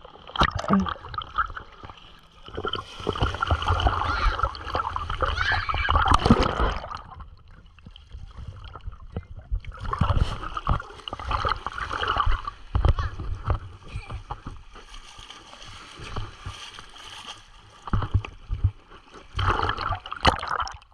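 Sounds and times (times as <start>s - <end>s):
seawater splashing and sloshing: 0.0s - 20.9s.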